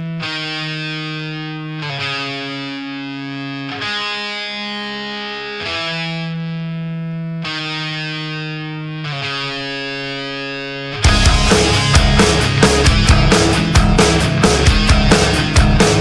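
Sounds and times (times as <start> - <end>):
distorted electric guitar chords: 0.0 - 16.0.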